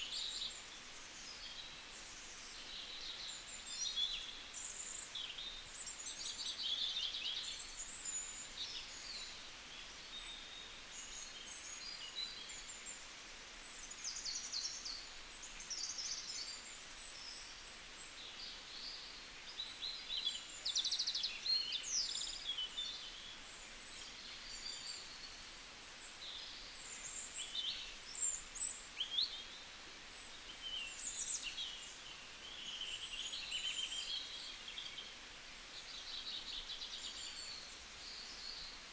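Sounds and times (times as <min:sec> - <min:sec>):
faint steady hiss: 0:00.0 - 0:38.9
small birds chirping and trilling: 0:00.0 - 0:38.9.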